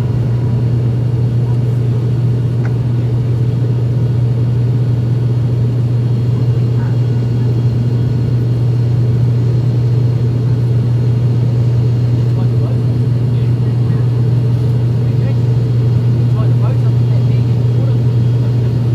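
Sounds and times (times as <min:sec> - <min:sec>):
turboprop engines droning: 0:00.0 - 0:18.9.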